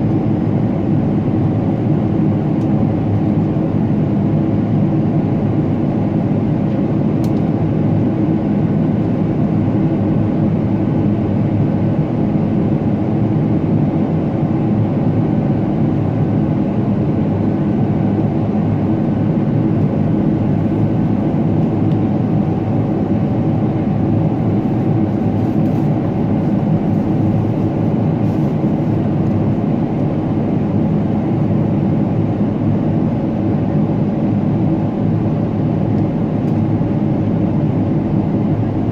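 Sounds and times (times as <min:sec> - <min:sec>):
airliner cabin engine rush: 0:00.0 - 0:38.9.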